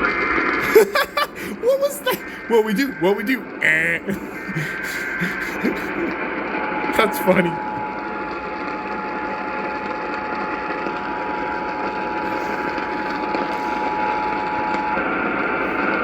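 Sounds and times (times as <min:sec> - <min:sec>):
radio static hiss: 0:00.7 - 0:08.5, 0:10.8 - 0:16.0
radio steady single tone: 0:02.1 - 0:16.0.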